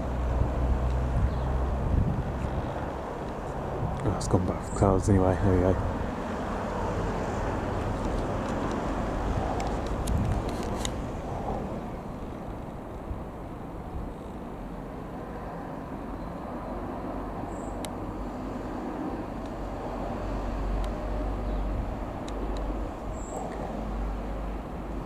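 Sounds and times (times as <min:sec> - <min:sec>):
distant jet airliner rumble: 0:00.0 - 0:25.0.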